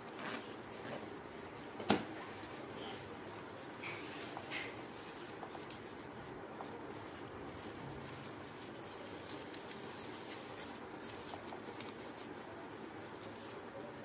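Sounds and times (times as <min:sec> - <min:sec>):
cloth rustling: 0:00.0 - 0:14.0.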